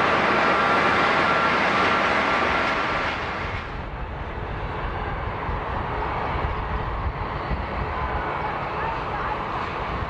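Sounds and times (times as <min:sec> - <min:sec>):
jet engines whining: 0:00.0 - 0:10.0.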